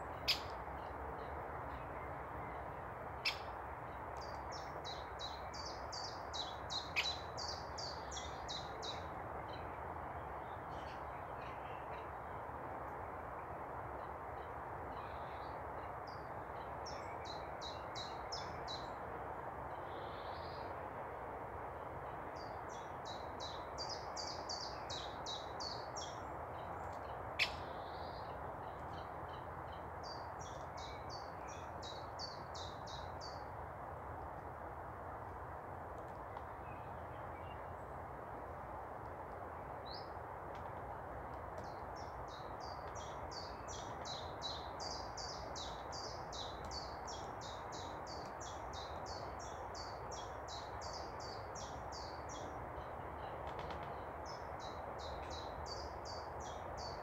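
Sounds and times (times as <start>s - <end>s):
songbird singing: 0.0s - 12.4s, 14.0s - 19.0s, 19.7s - 20.7s, 22.4s - 33.6s, 36.2s - 38.0s, 39.8s - 40.2s, 41.5s - 57.0s.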